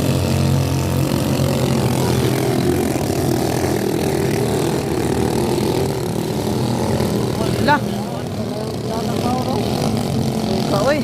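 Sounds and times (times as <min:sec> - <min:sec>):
motorboat engine running at speed: 0:00.0 - 0:11.0.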